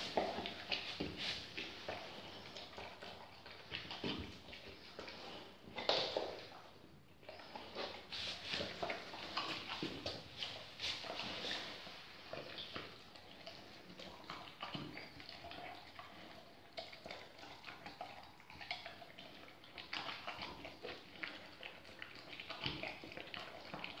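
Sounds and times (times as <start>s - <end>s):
dog chewing and licking: 0.0s - 24.0s.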